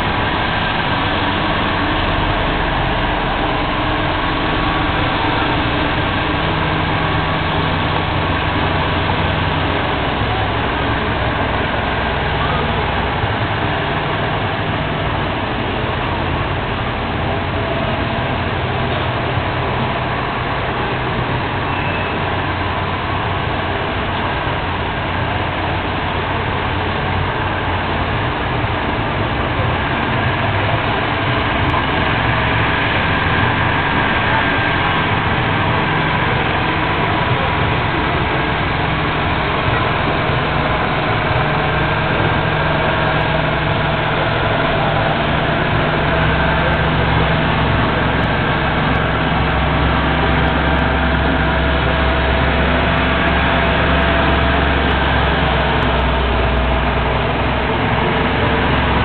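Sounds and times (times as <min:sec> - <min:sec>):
low engine-like hum: 0:00.0 - 0:59.0
outdoor background noise: 0:00.0 - 0:59.0.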